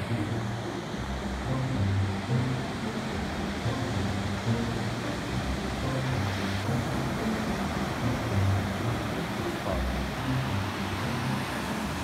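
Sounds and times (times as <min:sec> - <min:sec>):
background music with bass line: 0:00.0 - 0:11.5
ocean surf on beach: 0:00.0 - 0:12.0.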